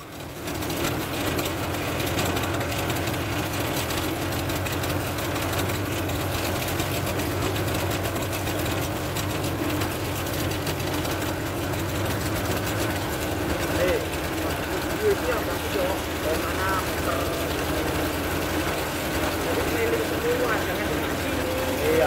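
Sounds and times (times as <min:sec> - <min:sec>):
large engine droning: 0:00.0 - 0:22.0.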